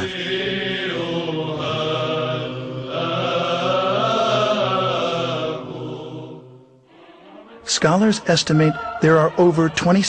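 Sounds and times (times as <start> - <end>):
low voices chanting: 0.0 - 10.0.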